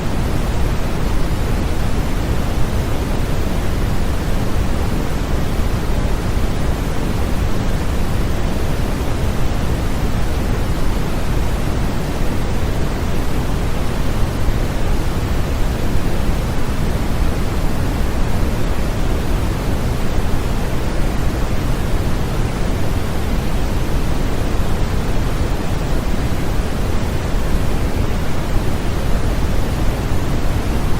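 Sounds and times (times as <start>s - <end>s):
white noise hiss: 0.0s - 30.9s.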